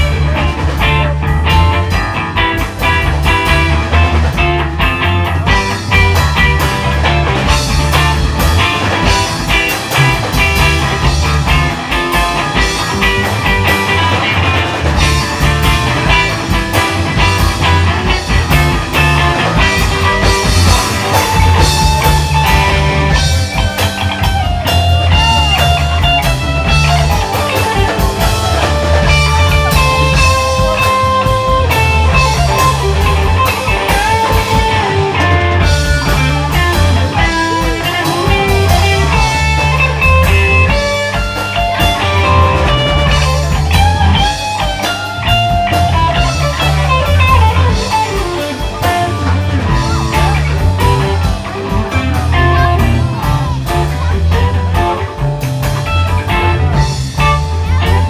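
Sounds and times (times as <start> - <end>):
rock music: 0.0 - 58.0.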